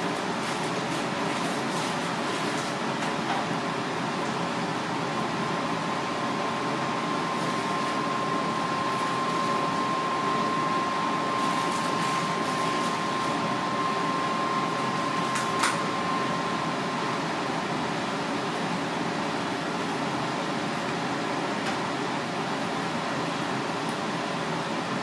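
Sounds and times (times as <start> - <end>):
thin steady whine: 0.0 - 25.0
ventilation machinery whirring: 0.0 - 25.0.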